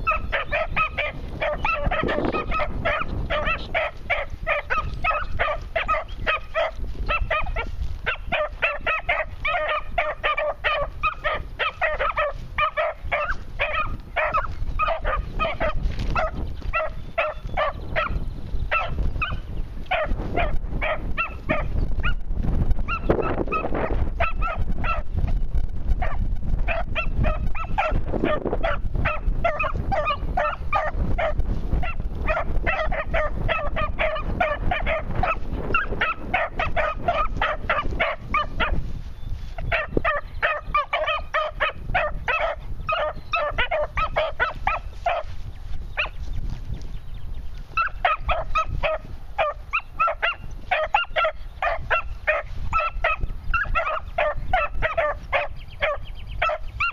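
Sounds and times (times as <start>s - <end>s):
puppies yipping: 0.0s - 22.2s, 22.8s - 25.1s, 26.0s - 46.6s, 47.3s - 56.9s.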